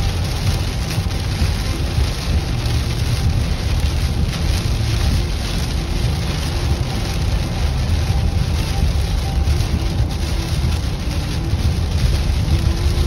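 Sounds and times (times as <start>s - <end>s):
rain and tyre spray hiss: 0.0s - 13.0s
road and engine drone: 0.0s - 13.0s.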